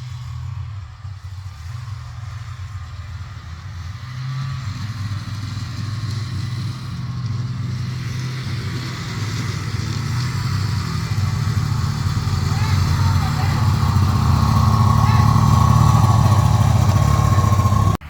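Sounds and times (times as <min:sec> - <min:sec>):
snowmobile engine running: 0:01.2 - 0:18.0.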